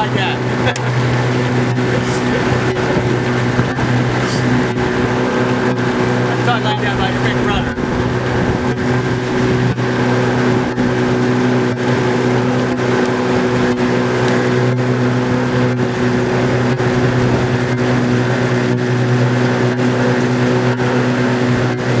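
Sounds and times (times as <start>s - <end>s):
outboard motor droning: 0.0s - 22.0s
water rushing along hull: 0.0s - 22.0s.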